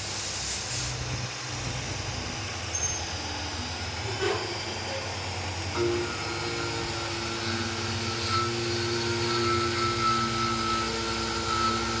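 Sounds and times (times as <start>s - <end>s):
machine tool hum and whine: 0.0s - 12.0s.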